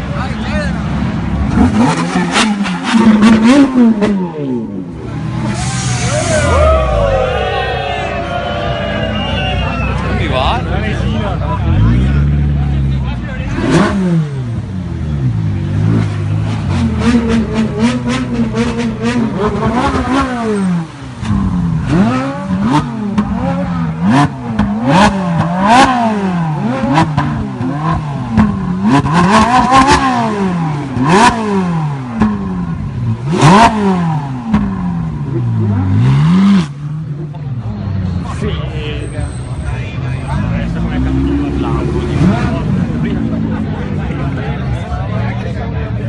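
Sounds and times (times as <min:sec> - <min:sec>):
sports car engine revving: 0:00.6 - 0:07.5, 0:10.6 - 0:38.5, 0:40.1 - 0:46.0.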